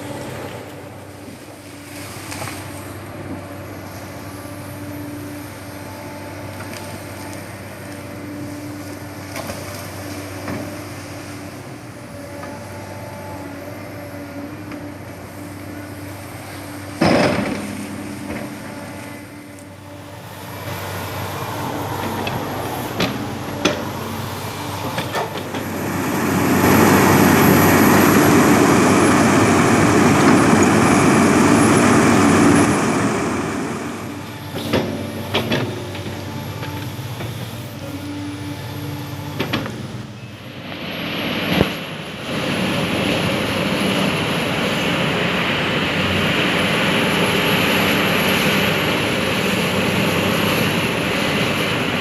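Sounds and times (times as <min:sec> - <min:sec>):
excavator engine and hydraulics: 0:00.0 - 0:52.0.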